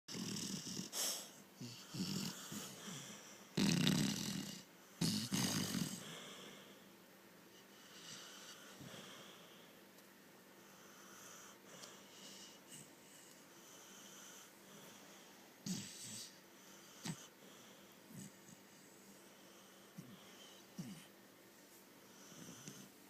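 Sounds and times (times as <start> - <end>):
puppy snoring: 0.1 - 6.8, 7.6 - 9.6, 10.6 - 21.2, 22.0 - 23.0.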